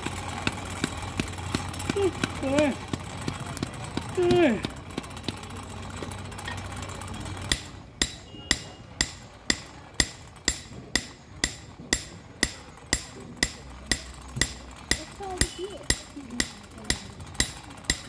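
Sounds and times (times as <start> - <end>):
hammer striking metal: 0.0 - 18.0.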